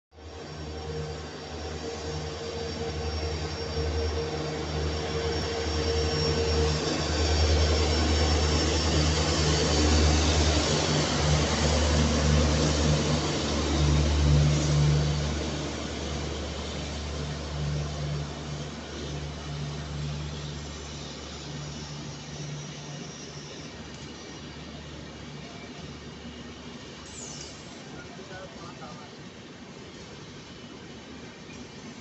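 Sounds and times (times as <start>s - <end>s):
diesel locomotive engine: 0.1s - 32.0s
train coaches rolling on rails: 0.2s - 32.0s.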